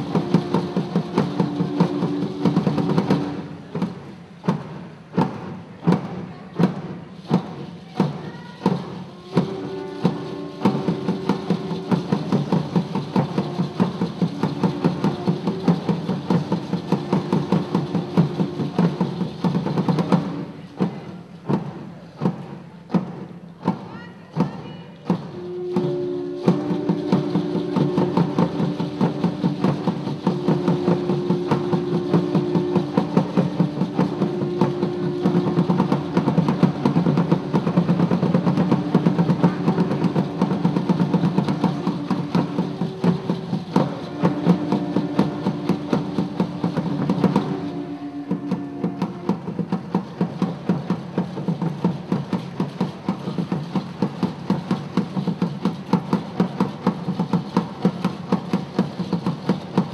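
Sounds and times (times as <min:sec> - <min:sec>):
drums playing a steady rhythm: 0:00.0 - 0:59.9.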